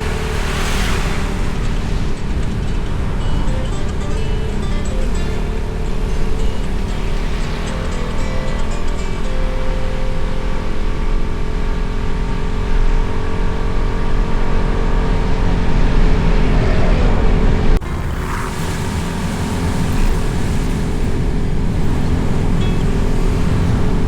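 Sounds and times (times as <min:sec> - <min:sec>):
motorcycle engine drone: 0:00.0 - 0:24.0
wind noise on microphone: 0:00.0 - 0:24.0.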